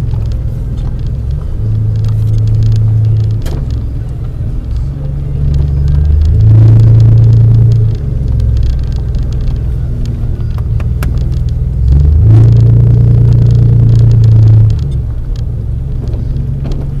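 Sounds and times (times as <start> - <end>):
vehicle engine low drone: 0.0 - 17.0.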